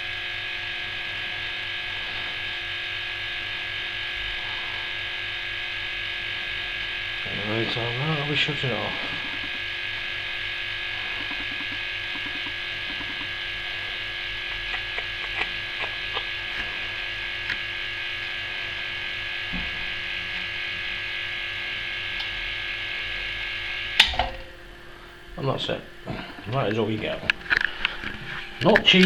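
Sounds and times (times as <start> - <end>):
air compressor humming: 0.0 - 29.0.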